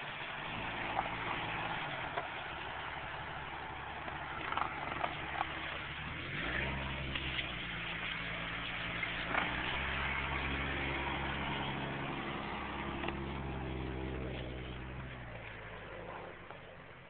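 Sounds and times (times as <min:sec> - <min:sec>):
car engine running at low speed: 0:00.0 - 0:17.0.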